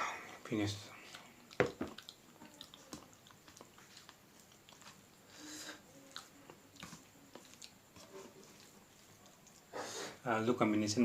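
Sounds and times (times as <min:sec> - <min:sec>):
person chewing food: 0:00.9 - 0:10.2.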